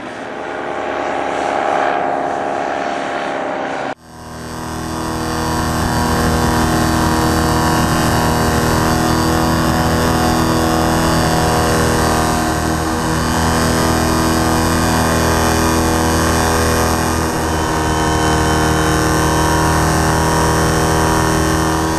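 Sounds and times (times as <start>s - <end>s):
paramotor engine and propeller: 0.0s - 21.9s.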